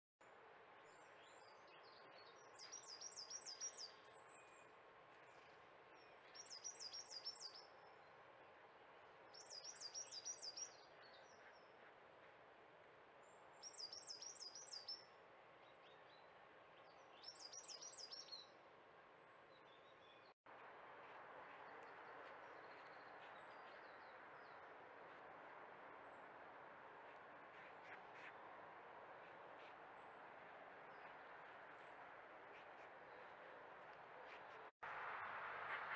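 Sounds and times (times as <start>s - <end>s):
songbird singing: 0.2s - 12.4s, 13.2s - 34.7s
distant road traffic hum: 0.2s - 35.9s.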